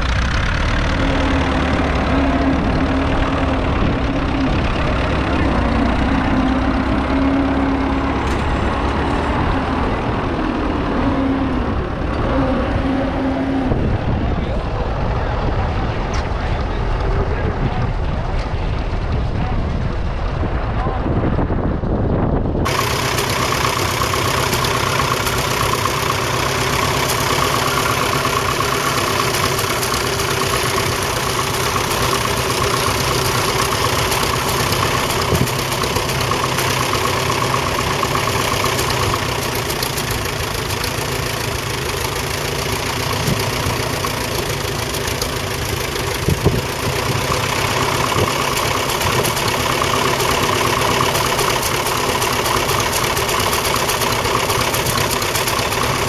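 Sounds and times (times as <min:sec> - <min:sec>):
tractor engine running steadily: 0:00.0 - 0:56.0.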